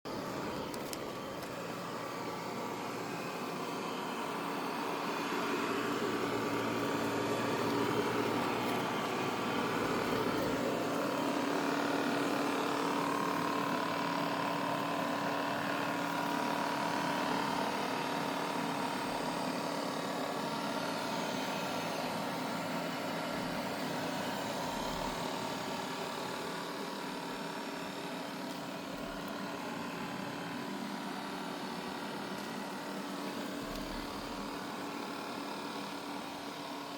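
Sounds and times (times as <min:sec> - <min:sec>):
robot vacuum motor hum: 0:00.1 - 0:36.9.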